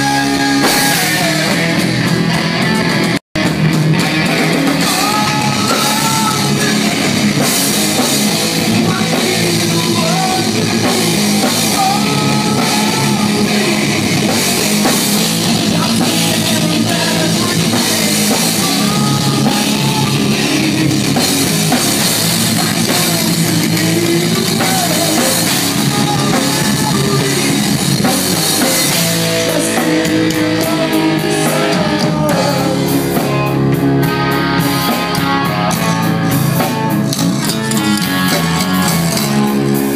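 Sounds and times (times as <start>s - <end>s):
person singing: 0.0s - 1.8s, 4.3s - 36.7s
drum kit: 0.0s - 39.9s
electric bass: 0.0s - 39.9s
electric guitar: 0.0s - 39.9s.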